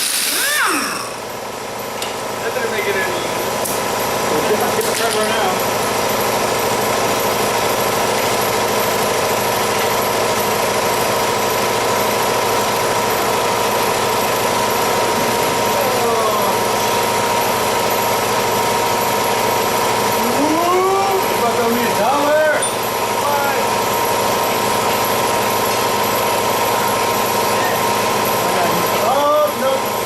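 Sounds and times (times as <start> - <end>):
machine running loudly: 0.0 - 30.0.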